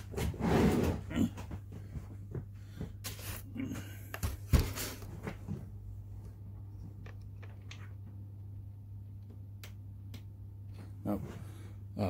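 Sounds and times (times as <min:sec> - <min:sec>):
transformer electrical hum: 0:00.0 - 0:12.0.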